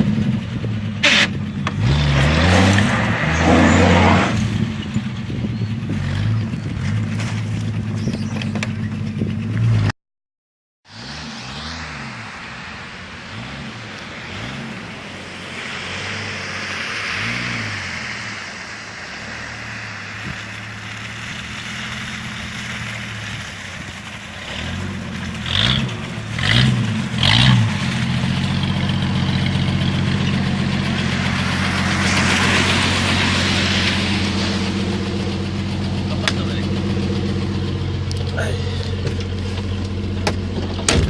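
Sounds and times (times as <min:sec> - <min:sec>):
engine revving: 0:00.0 - 0:09.9, 0:10.8 - 0:41.0.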